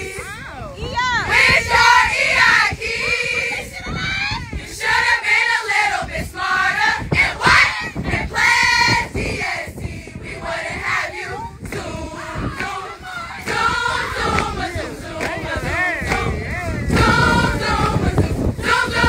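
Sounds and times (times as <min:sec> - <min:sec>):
crowd of women chanting: 0:01.0 - 0:19.0.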